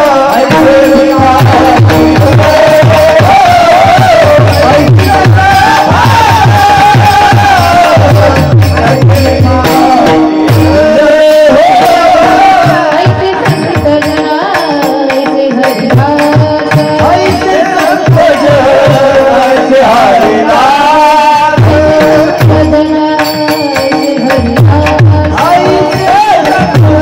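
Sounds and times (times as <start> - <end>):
women singing devotional song: 0.0 - 27.0.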